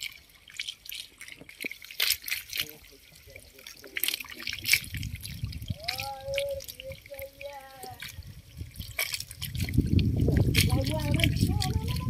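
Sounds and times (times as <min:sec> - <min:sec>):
fish flapping and splashing: 0:00.0 - 0:12.0
rushing water: 0:00.0 - 0:12.0.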